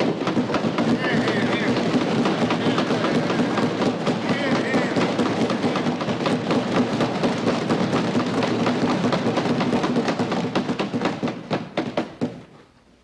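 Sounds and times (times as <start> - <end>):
people clapping: 0.0 - 12.2
thumping on wooden desks: 0.0 - 12.8.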